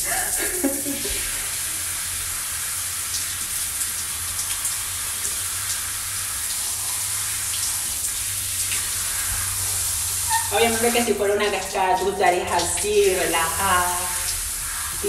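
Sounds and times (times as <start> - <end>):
shower water spraying: 0.0 - 15.0.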